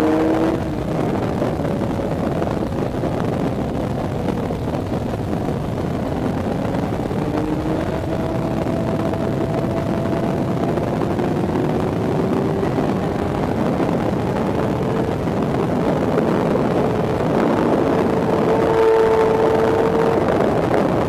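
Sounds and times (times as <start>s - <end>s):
motorcycle engine at high revs: 0.0s - 21.0s
wind noise: 0.0s - 21.0s.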